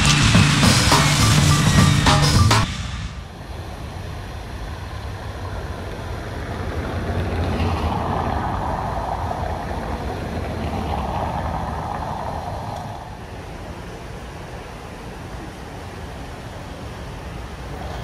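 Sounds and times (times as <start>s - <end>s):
low engine rumble: 0.0s - 18.0s
rushing noise: 0.0s - 18.0s.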